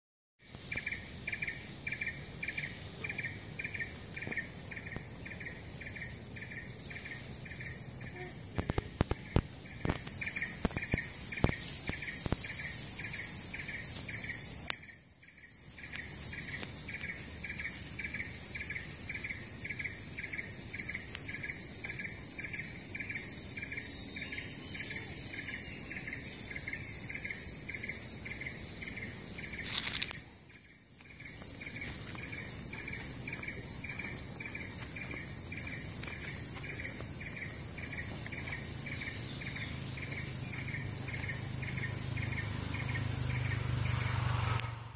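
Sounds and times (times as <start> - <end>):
insect chirping rhythmically: 0.4 - 44.9
insects buzzing shrilly: 0.4 - 44.9.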